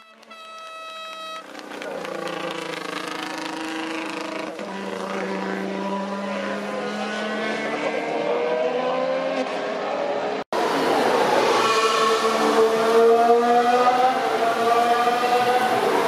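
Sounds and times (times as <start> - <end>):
racing car engine: 1.4 - 16.0.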